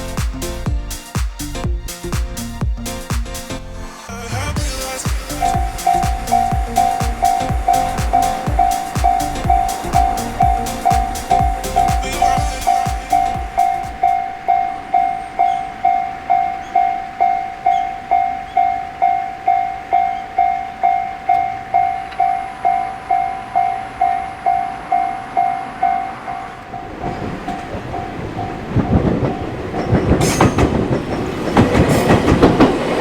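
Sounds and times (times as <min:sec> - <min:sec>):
low train rumble: 0:00.0 - 0:33.0
level crossing warning bell: 0:05.3 - 0:32.9.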